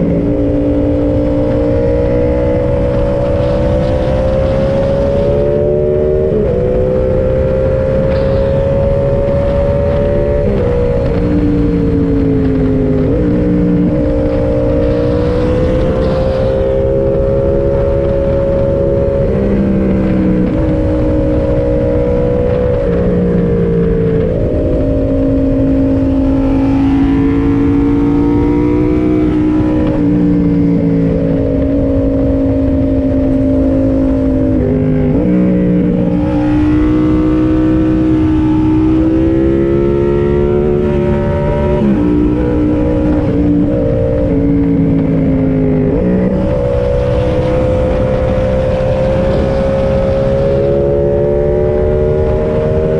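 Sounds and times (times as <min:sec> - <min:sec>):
motorcycle engine revving: 0:00.0 - 0:52.9
wind rush: 0:00.0 - 0:52.9.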